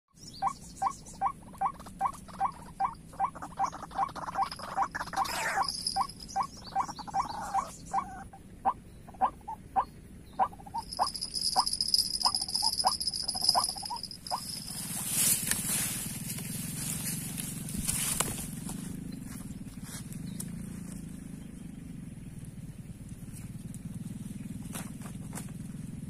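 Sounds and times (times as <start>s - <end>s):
insects humming: 0.2s - 26.0s.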